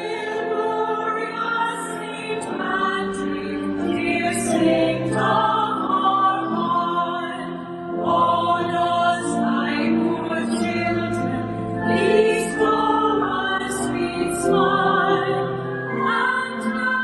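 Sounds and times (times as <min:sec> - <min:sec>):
choir singing a hymn: 0:00.0 - 0:17.0.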